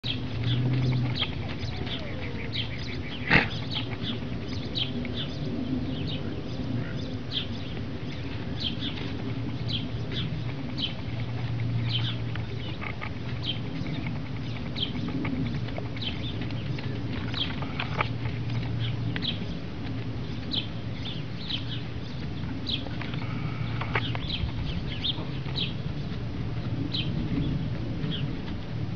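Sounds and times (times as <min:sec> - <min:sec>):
small birds chirping: 0:00.0 - 0:28.6
steady low hum: 0:00.0 - 0:28.9.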